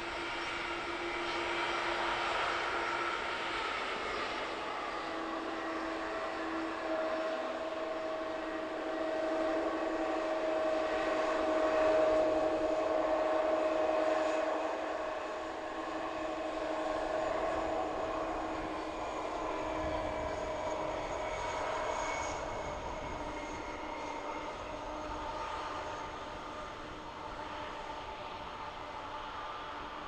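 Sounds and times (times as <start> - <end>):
airliner engines whining: 0.0 - 30.0.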